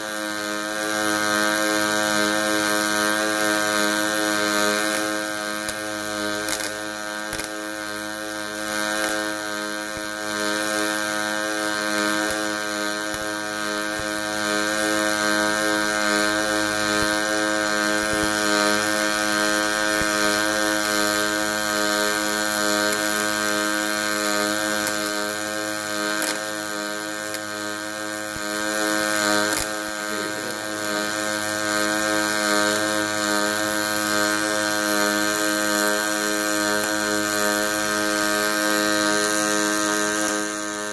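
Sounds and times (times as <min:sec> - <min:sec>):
welding machine humming: 0:00.0 - 0:40.9.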